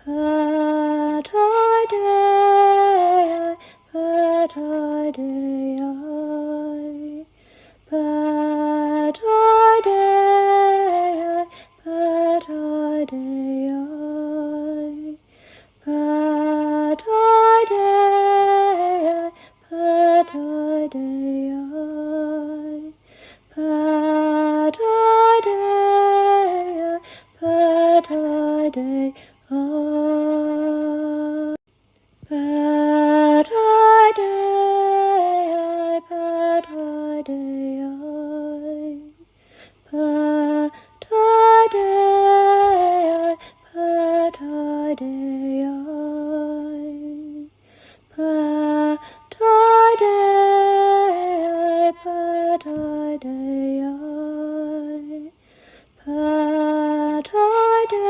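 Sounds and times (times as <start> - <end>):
woman singing unaccompanied chant: 0.0 - 31.6, 32.2 - 58.0.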